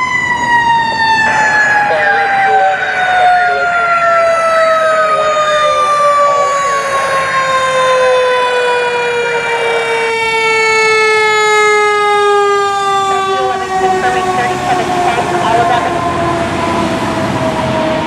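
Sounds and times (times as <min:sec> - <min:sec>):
siren winding down: 0:00.0 - 0:18.0.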